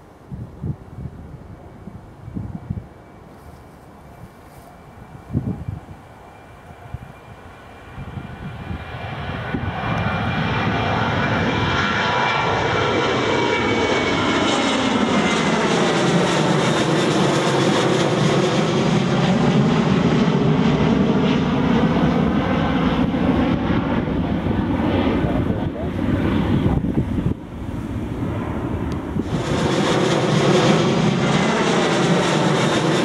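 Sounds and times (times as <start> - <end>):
jet engine roar: 1.1 - 33.0
high engine whine: 1.5 - 33.0.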